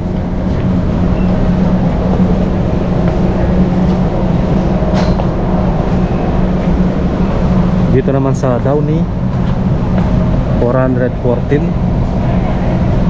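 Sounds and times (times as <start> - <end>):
low mechanical hum: 0.0 - 13.0
rough rumble: 0.0 - 13.0.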